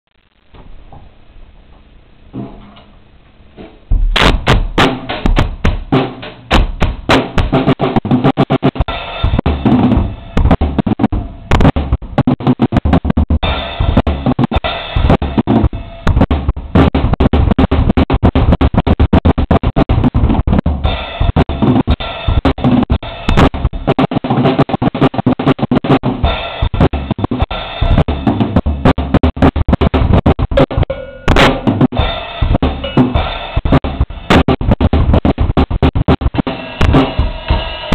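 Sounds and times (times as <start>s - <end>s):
drum kit playing: 3.8s - 37.9s.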